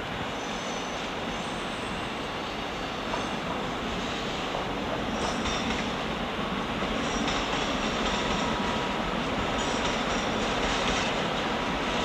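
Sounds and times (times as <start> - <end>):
train rumbling on tracks: 0.0 - 12.0.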